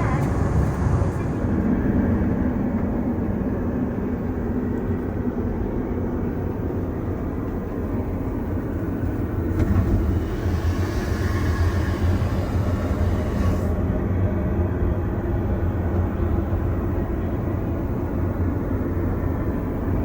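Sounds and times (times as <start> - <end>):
airplane cabin rumble and hiss: 0.0 - 20.0.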